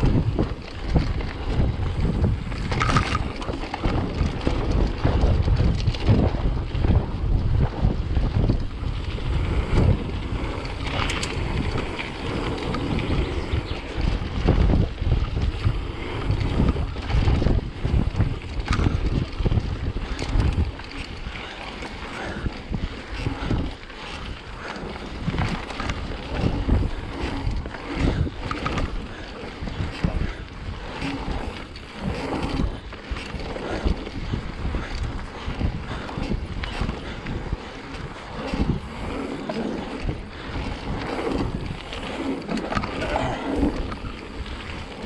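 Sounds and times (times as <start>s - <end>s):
bike knocks and rattles: 0.0s - 45.0s
wind buffeting microphone: 0.0s - 45.0s.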